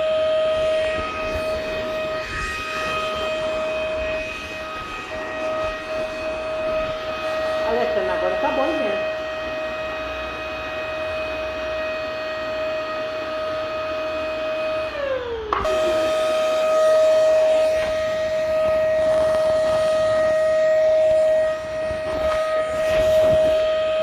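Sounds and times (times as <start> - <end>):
vacuum cleaner motor whining: 0.0 - 24.0.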